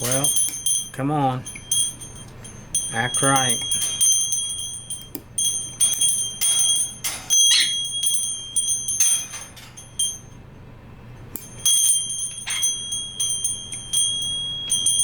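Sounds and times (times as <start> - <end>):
magnets clicking with metallic ring: 0.0 - 10.4, 11.2 - 15.0.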